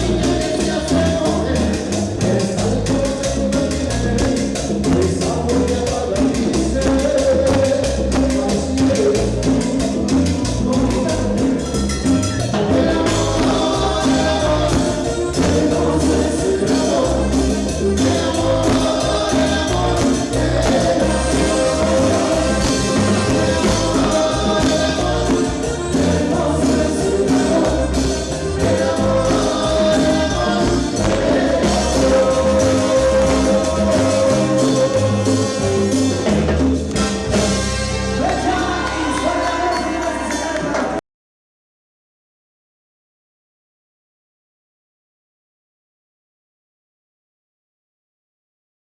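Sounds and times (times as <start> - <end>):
cumbia band playing live: 0.0 - 41.0.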